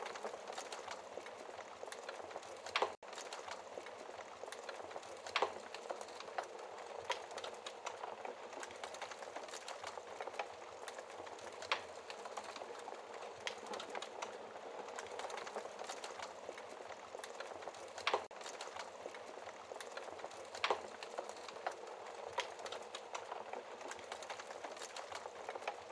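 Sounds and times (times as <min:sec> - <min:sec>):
wood fire hissing and crackling: 0:00.0 - 0:25.9.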